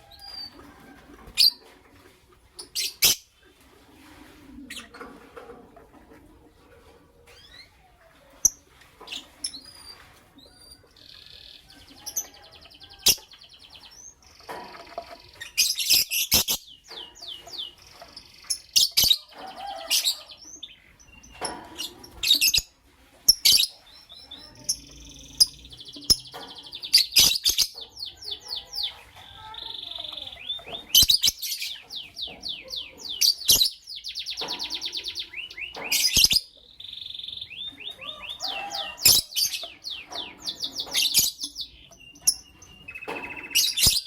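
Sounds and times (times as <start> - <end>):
lovebirds chirping: 7.3 - 44.0.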